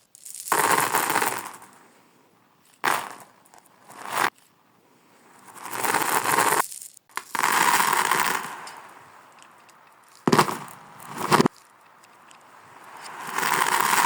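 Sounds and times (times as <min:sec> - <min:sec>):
reversed beads clattering: 0:00.0 - 0:01.9, 0:02.6 - 0:04.5, 0:05.3 - 0:14.0.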